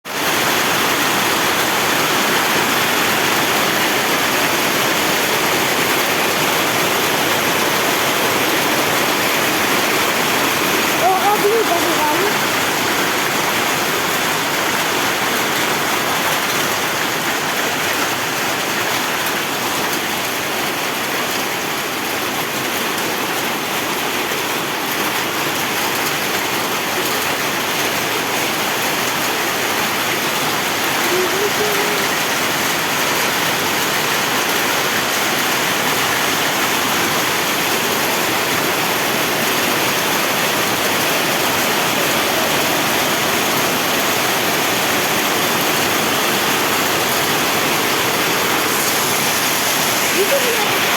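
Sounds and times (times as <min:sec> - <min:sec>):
heavy rain and hail falling: 0:00.0 - 0:50.9.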